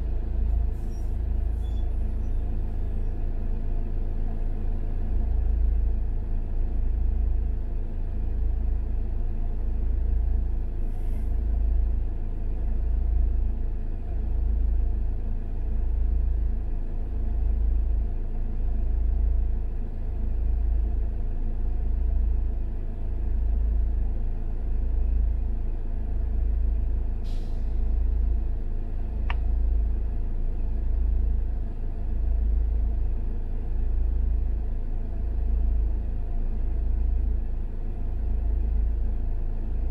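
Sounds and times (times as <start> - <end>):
idling engines rumbling: 0.0 - 39.9.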